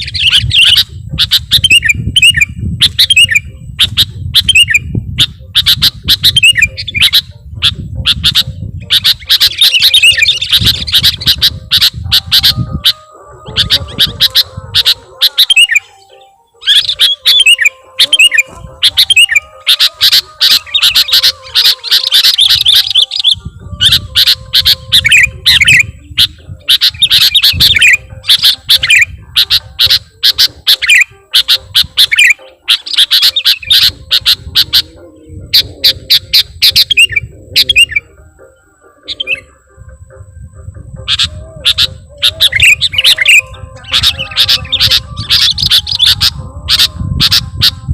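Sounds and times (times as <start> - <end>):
bird chattering calls: 0.0 - 47.9.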